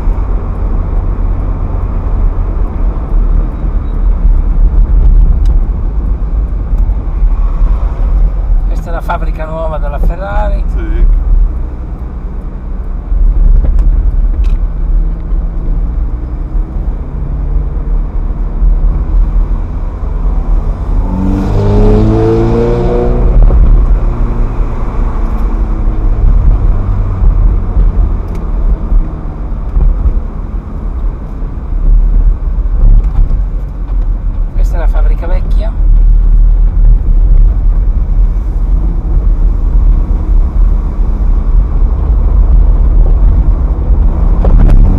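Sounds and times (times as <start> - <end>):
car engine rumbling and accelerating: 0.0 - 44.9.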